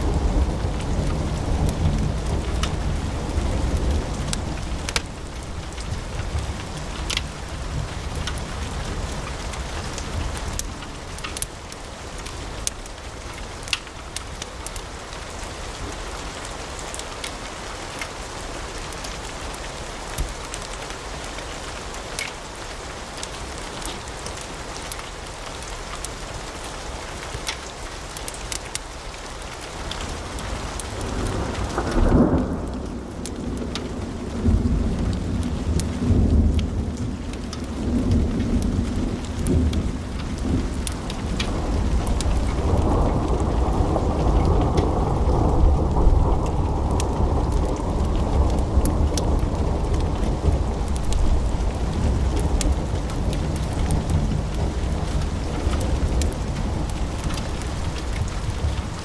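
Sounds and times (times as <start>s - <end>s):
fire crackling: 0.0s - 18.1s, 22.2s - 59.0s.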